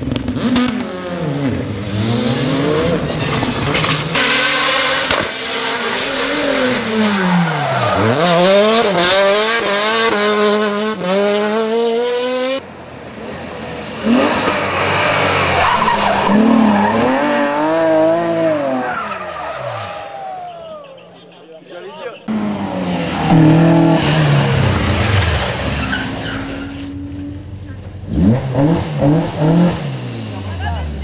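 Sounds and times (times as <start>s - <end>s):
rally car engines revving: 0.0s - 21.5s, 22.1s - 31.0s
tyres skidding: 0.3s - 11.6s, 12.2s - 31.0s.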